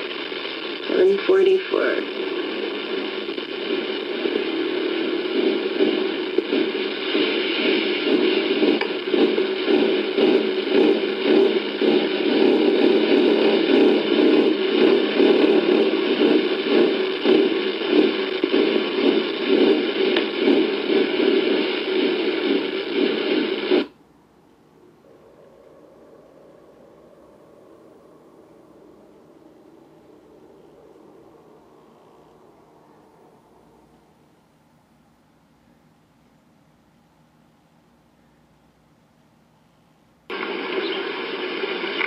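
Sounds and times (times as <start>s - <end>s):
loud hissy drone: 0.0s - 24.0s, 24.6s - 34.7s, 40.3s - 42.0s.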